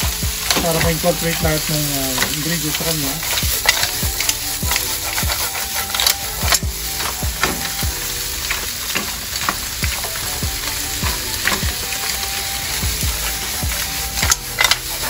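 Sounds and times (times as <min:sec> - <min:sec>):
seafood sizzling in a pan: 0:00.0 - 0:15.0
utensil scraping against a pan: 0:00.0 - 0:15.0.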